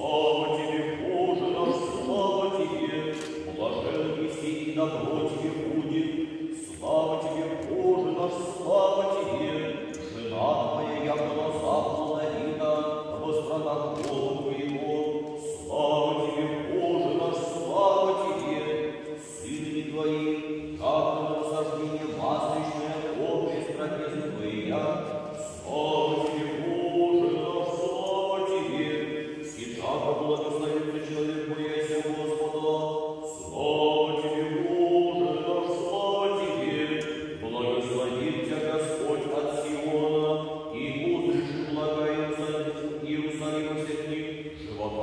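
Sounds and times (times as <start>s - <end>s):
choir singing unaccompanied chant: 0.0s - 45.0s.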